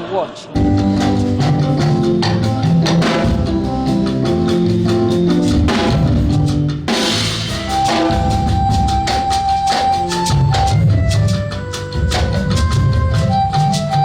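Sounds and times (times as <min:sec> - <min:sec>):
bass notes: 0:00.6 - 0:14.0
drum kit beat: 0:00.6 - 0:14.0.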